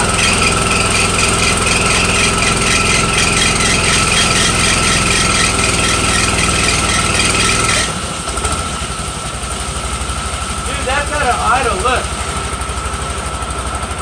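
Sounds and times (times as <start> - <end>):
pump engine running: 0.0 - 14.0.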